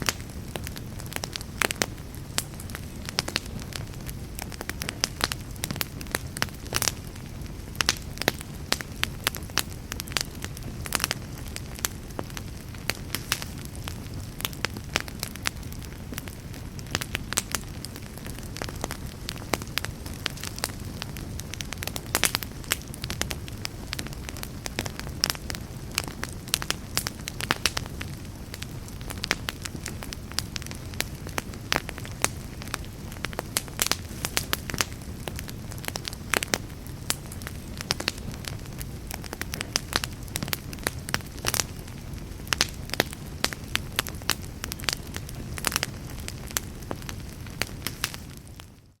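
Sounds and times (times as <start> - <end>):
low rumble of flames: 0.0 - 49.0
wood fire crackling and popping: 0.0 - 49.0.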